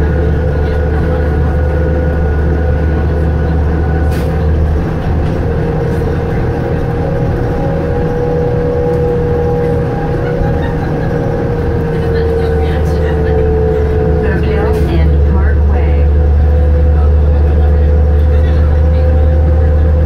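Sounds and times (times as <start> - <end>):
bus engine running: 0.0 - 20.0
deep low drone: 0.0 - 20.0
rear axle whine: 0.0 - 20.0.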